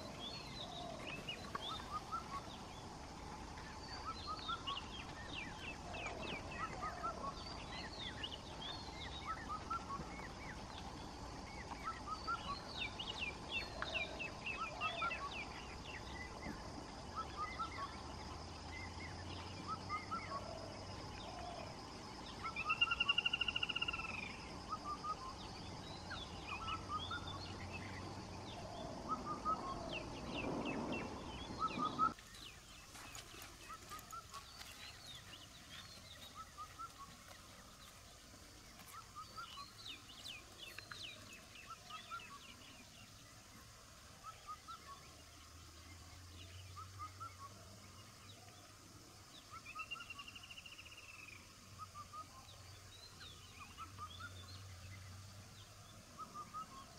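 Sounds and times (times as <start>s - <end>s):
birds chirping: 0.0s - 56.9s
low background noise: 0.0s - 56.9s.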